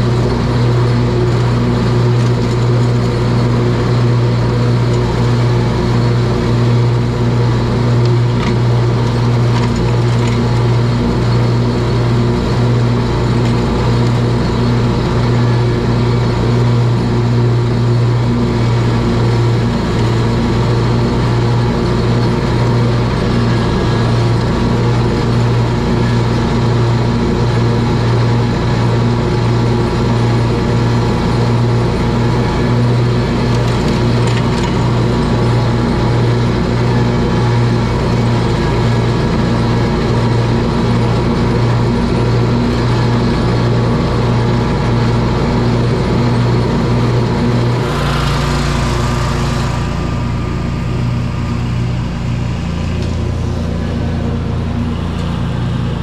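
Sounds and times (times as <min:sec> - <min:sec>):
lawn mower running: 0:00.0 - 0:56.0.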